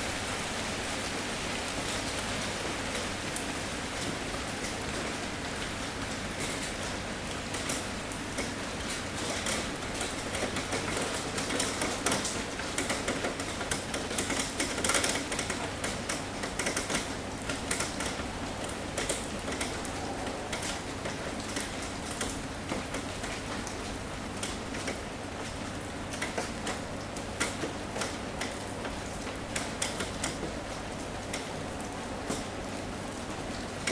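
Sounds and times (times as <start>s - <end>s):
steady rain hiss: 0.0s - 33.9s
raindrops tapping on hard surface: 2.9s - 32.7s.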